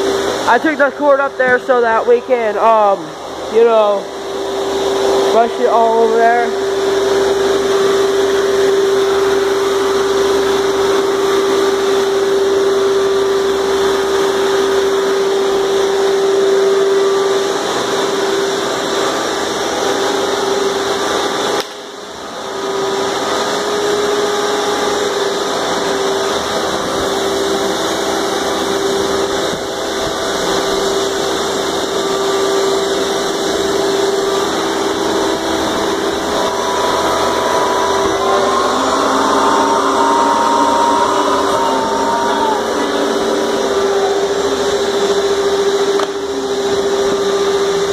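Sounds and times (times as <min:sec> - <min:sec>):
shop vacuum motor hum: 0:00.0 - 0:47.9.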